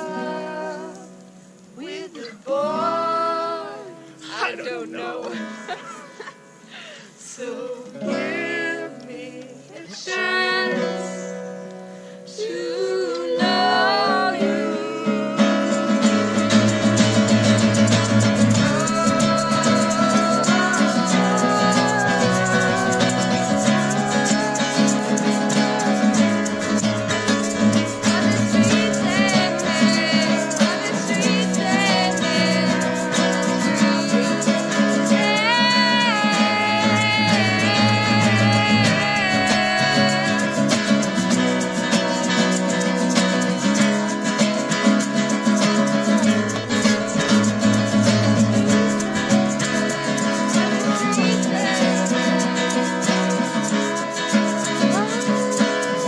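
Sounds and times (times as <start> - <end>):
acoustic guitar chords: 0.0 - 56.0
person singing held notes: 6.7 - 44.4, 45.3 - 56.0.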